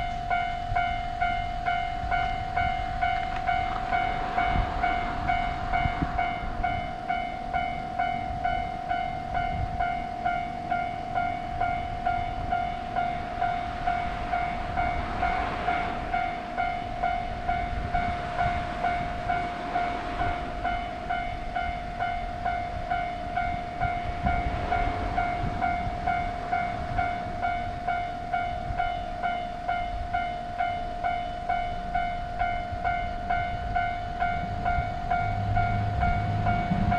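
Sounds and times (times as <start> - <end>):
level crossing warning bell: 0.0 - 36.9
train rumbling past: 0.0 - 36.9.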